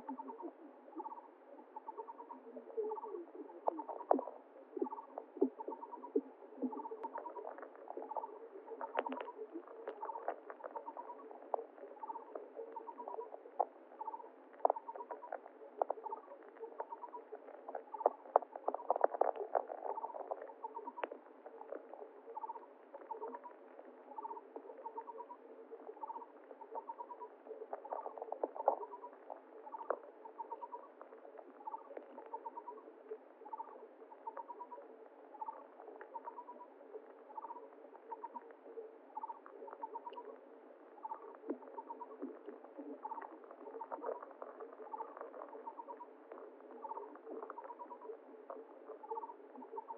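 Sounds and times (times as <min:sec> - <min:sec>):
water ticking and pattering: 0:00.0 - 0:49.9.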